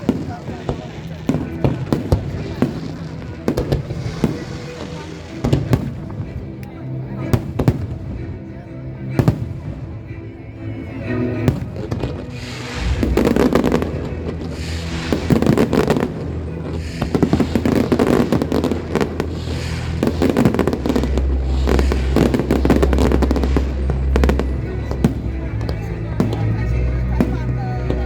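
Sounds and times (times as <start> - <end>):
fireworks bursting and crackling: 0.0 - 8.4, 11.4 - 28.0
music playing: 0.0 - 28.0.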